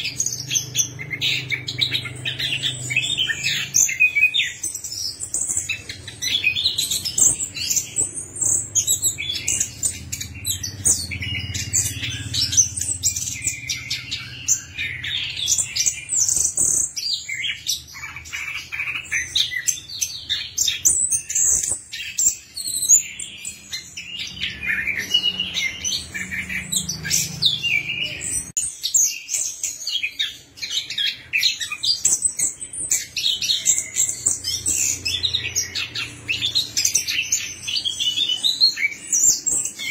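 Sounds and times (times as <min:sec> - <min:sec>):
thrush singing chirps and trills: 0:00.0 - 0:39.9.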